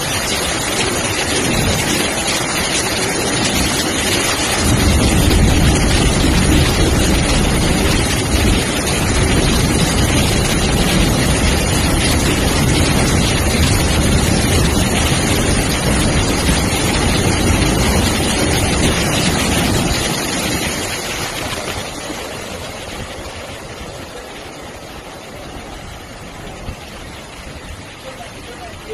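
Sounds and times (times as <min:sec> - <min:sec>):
rush of spraying water: 0:00.0 - 0:28.9
train rumbling: 0:00.0 - 0:28.9.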